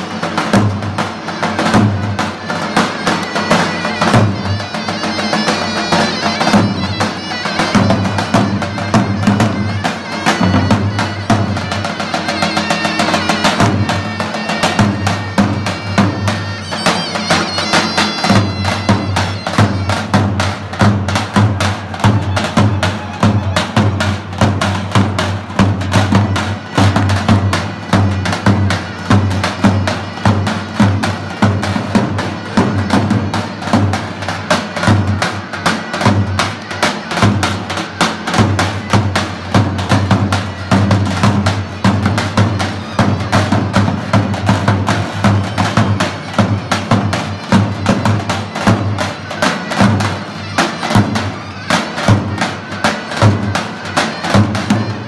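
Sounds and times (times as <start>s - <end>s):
shrill reed pipe melody: 0.0s - 55.0s.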